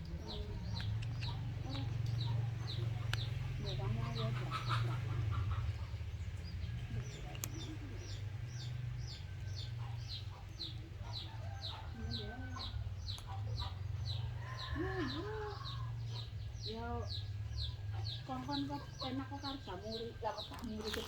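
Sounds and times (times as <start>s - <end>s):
chickens clucking: 0.0s - 21.0s
chicks peeping: 0.0s - 21.0s.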